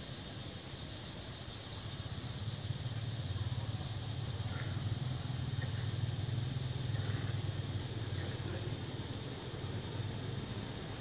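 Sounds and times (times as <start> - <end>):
engine humming with flutter: 0.9 - 11.0.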